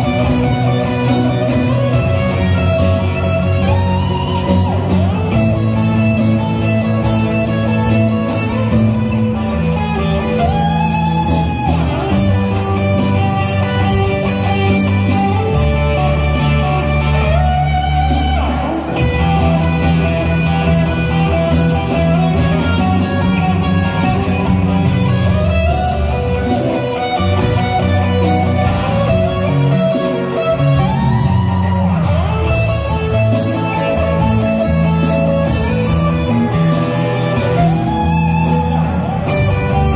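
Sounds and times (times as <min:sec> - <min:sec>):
drum kit: 0:00.0 - 0:39.9
electric bass: 0:00.0 - 0:39.9
keyboard: 0:00.0 - 0:39.9
lead electric guitar with bent notes: 0:00.0 - 0:39.9.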